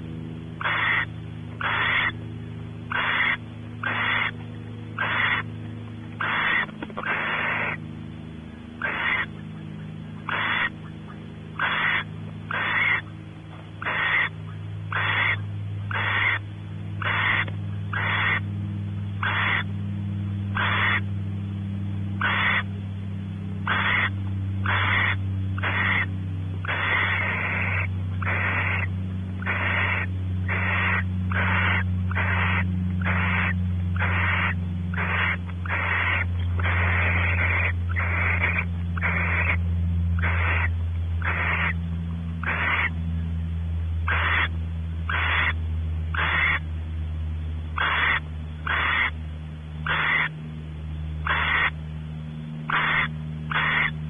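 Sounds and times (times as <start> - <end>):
owl raspy hissing calls: 0.0 - 2.2, 2.8 - 7.9, 8.5 - 13.2, 13.8 - 18.4, 19.2 - 19.7, 20.5 - 21.1, 22.2 - 22.7, 23.6 - 41.8, 42.4 - 43.0, 44.0 - 46.7, 47.7 - 49.2, 49.8 - 50.4, 51.2 - 51.8, 52.6 - 54.0
steady low hum: 0.0 - 54.0.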